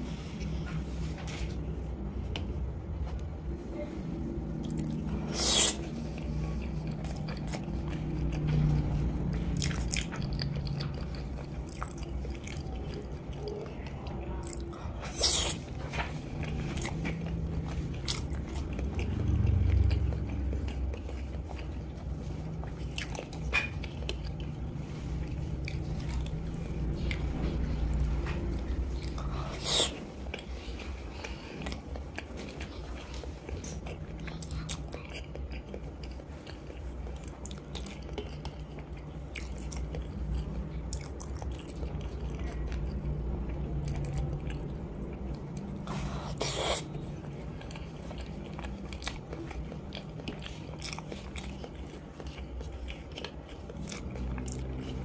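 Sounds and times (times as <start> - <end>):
chewing eggs close-up: 4.4 - 55.0.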